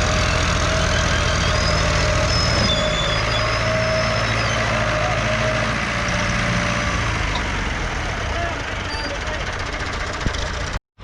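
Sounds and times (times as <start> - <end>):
diesel tractor engines under load: 0.0 - 10.8.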